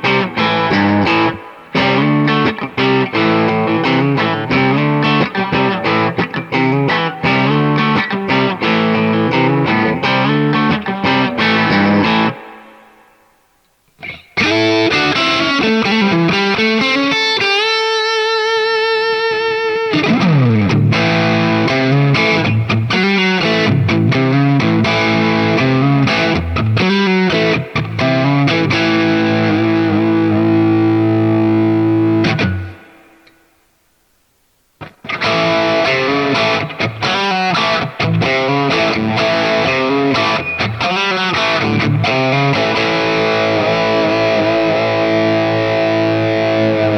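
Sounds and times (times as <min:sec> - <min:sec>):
distorted electric guitar: 0:00.0 - 0:33.6, 0:34.8 - 0:46.9.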